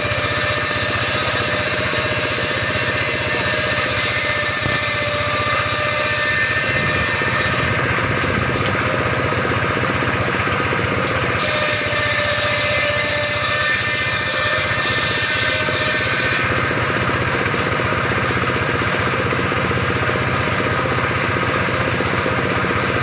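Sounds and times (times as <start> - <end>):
circular saw running: 0.0 - 23.0.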